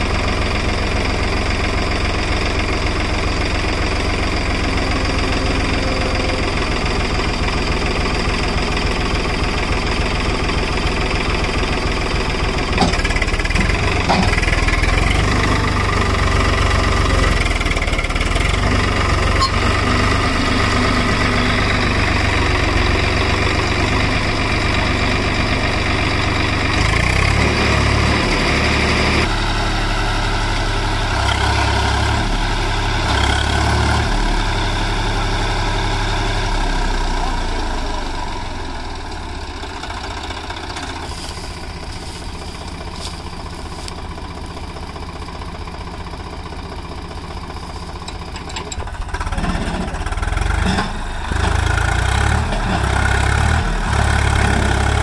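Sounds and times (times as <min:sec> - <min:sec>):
tractor diesel engine running hard: 0:00.0 - 0:55.0.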